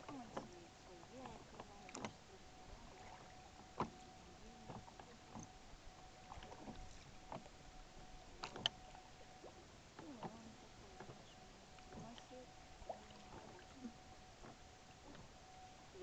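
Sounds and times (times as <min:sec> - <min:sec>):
oars knocking and creaking in oarlocks: 0:00.0 - 0:16.0
water splashing off oar blades: 0:00.0 - 0:16.0.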